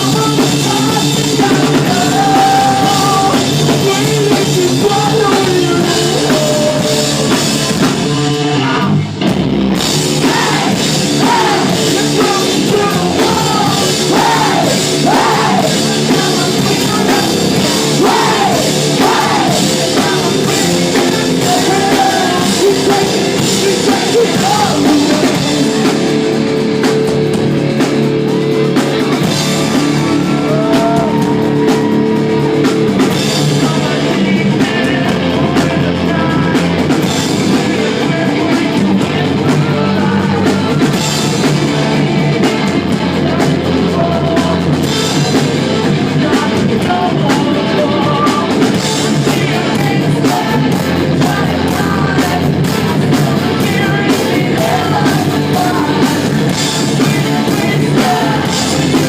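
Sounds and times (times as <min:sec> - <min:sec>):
person singing: 0:00.0 - 0:09.0, 0:10.2 - 0:26.3, 0:29.2 - 0:59.0
live rock band playing: 0:00.0 - 0:59.0.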